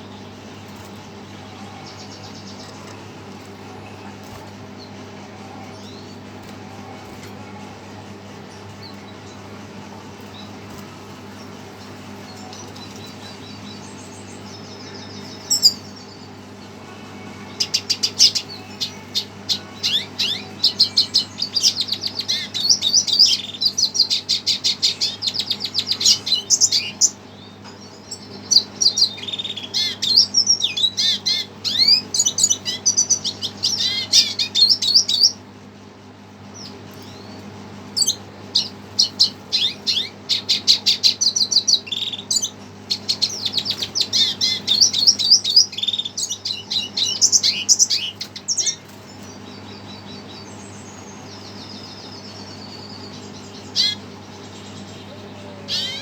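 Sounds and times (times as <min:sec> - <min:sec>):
bird twittering song: 0:00.0 - 0:07.4, 0:08.2 - 0:56.0
low electrical hum: 0:00.0 - 0:56.0.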